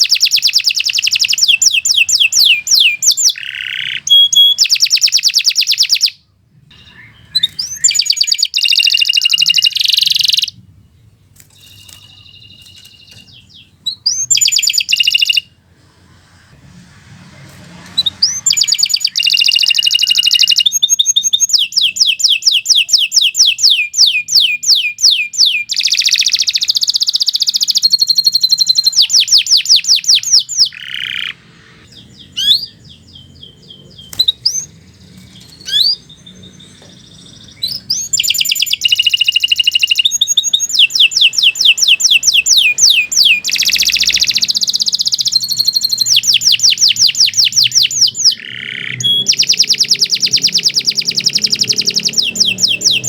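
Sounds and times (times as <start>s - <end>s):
canary singing trills: 0.0s - 15.6s, 17.9s - 53.0s
canary chirps: 0.0s - 16.4s, 17.9s - 53.0s.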